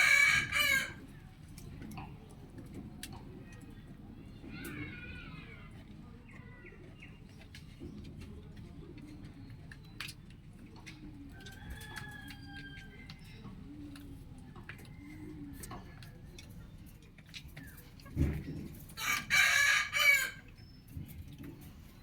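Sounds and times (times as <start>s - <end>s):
farmyard birds calling softly: 0.0s - 22.0s.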